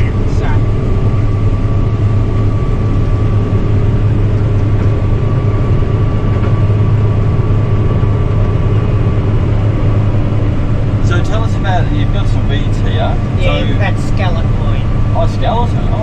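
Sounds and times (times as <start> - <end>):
combine harvester engine droning: 0.0 - 16.0
faint steady whine: 0.0 - 16.0.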